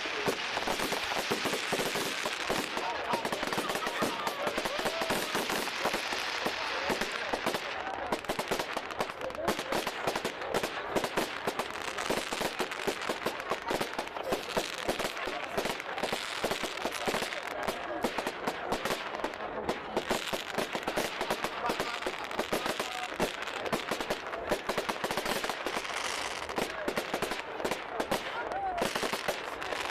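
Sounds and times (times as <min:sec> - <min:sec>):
crowd voices: 0:00.0 - 0:29.9
fireworks crackling bangs: 0:00.0 - 0:29.9.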